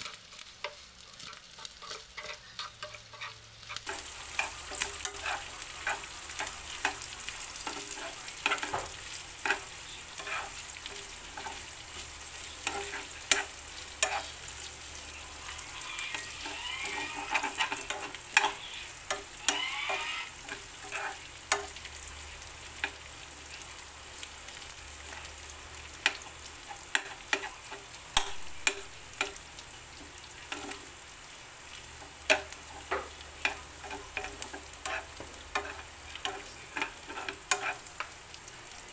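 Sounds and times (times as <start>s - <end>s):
metal spoon scraping a pan: 0.0s - 21.8s, 25.9s - 29.4s, 30.0s - 30.9s, 32.0s - 38.2s
meat sizzling in a frying pan: 0.0s - 38.9s.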